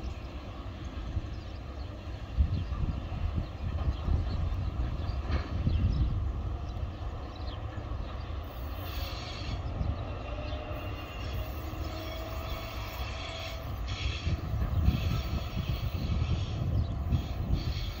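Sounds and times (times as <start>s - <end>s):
freight train rumbling: 0.0s - 18.0s.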